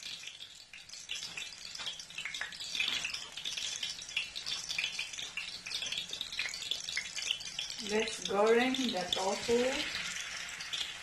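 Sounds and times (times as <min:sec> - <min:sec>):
oil sizzling and popping: 0:00.0 - 0:11.0.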